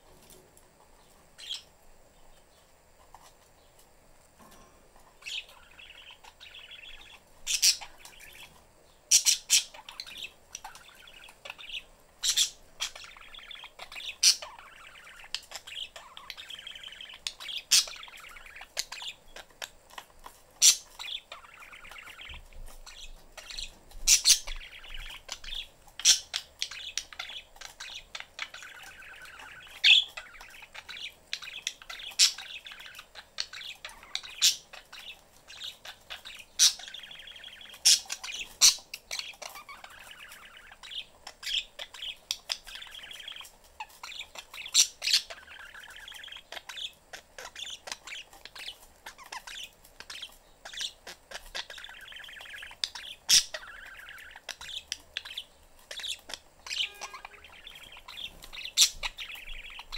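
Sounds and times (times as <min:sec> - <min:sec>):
budgerigars chattering: 0:01.4 - 0:01.7, 0:05.2 - 0:59.9.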